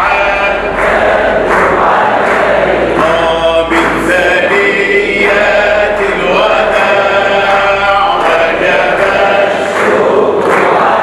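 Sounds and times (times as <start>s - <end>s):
man chanting religious song: 0.0s - 11.0s.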